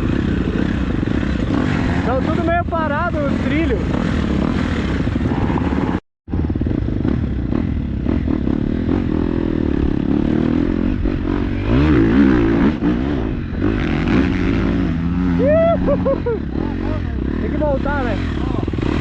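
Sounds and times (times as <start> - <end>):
dirt bike engine revving: 0.0 - 19.0
dirt bike engines idling: 0.0 - 19.0.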